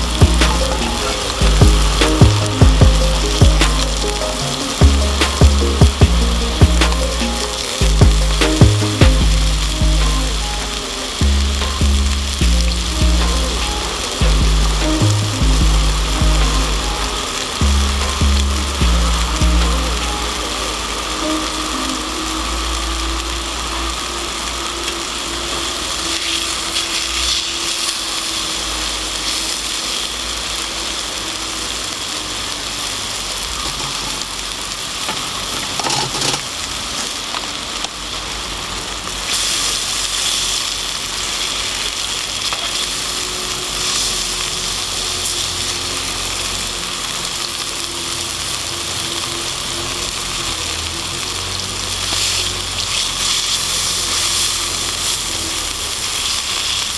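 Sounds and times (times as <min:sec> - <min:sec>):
food sizzling over a campfire: 0:00.0 - 0:56.9.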